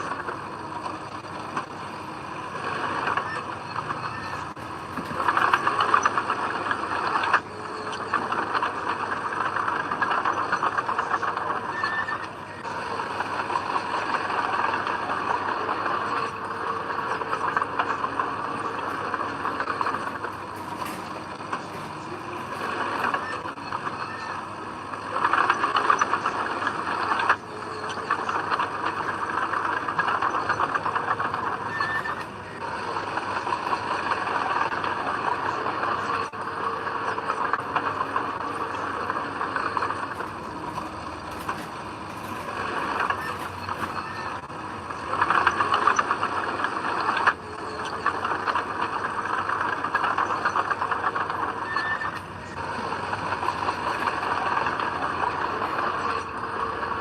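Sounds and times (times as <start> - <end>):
heavy diesel machinery working: 0.0 - 57.0.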